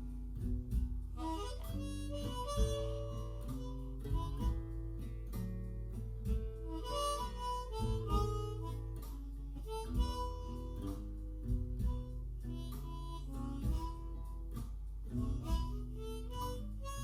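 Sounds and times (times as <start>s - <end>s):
guitar accompaniment: 0.0s - 17.0s
blues harmonica: 0.8s - 17.0s.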